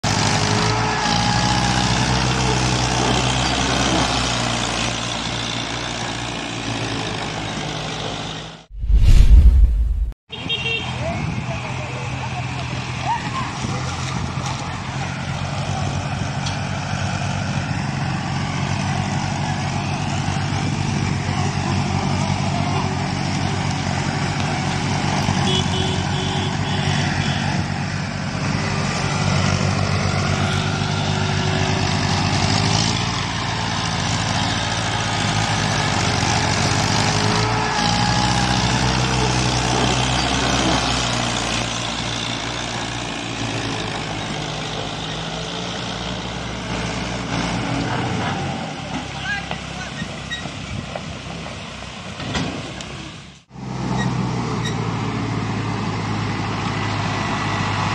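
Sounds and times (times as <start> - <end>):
diesel tractors running hard: 0.0 - 8.7, 10.4 - 57.9.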